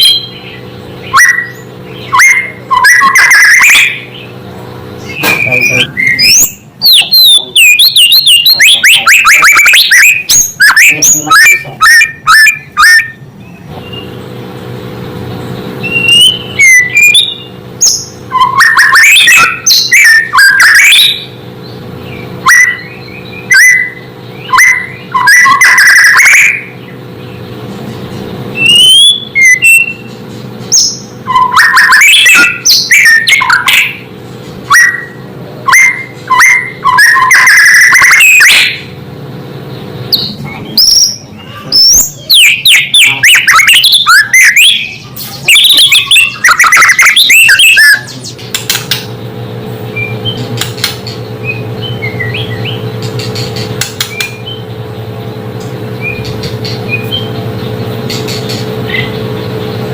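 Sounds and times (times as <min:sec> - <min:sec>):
bird singing whistles and trills: 0:00.0 - 0:04.4, 0:05.0 - 0:14.2, 0:15.8 - 0:27.4, 0:28.6 - 0:34.1, 0:34.7 - 0:38.9, 0:40.0 - 0:49.0, 0:49.9 - 0:50.5, 0:51.3 - 0:55.1, 0:56.0 - 0:59.7.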